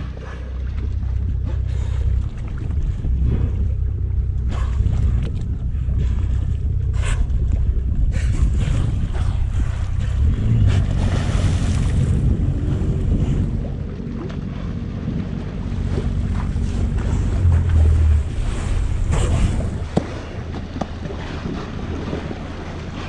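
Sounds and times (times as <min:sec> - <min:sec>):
boat motor hum: 0:00.0 - 0:23.0
water rushing past hull: 0:00.0 - 0:23.0
wind buffeting microphone: 0:00.0 - 0:23.0.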